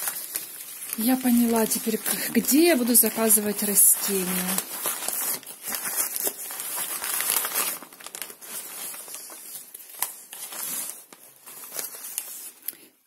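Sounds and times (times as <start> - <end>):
wrapping paper crinkling: 0.0 - 13.0.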